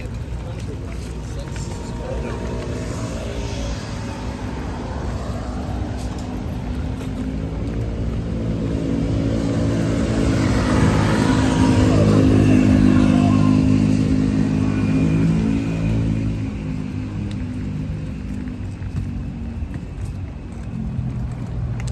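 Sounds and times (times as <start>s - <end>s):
vehicle passing: 0.0s - 21.9s.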